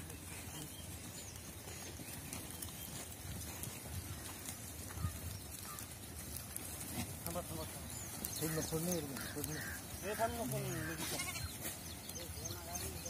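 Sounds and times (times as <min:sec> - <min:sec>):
faint animal sounds: 0:01.7 - 0:13.0.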